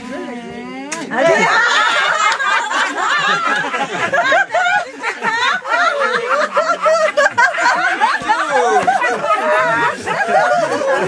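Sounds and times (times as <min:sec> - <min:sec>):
women laughing together: 0:01.1 - 0:11.0.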